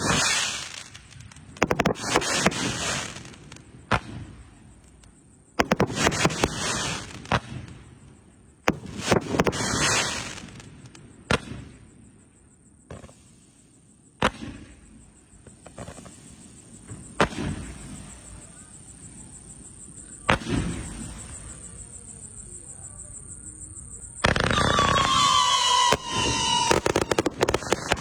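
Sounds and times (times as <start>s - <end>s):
firework bangs with crackle: 0.0s - 5.0s, 5.6s - 12.2s, 12.9s - 21.9s, 24.2s - 28.0s.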